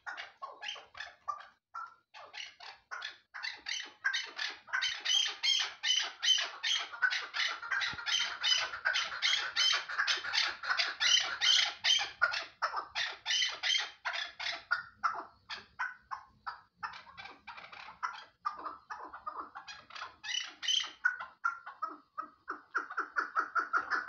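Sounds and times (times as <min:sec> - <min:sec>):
partridge calling: 0:00.0 - 0:24.0.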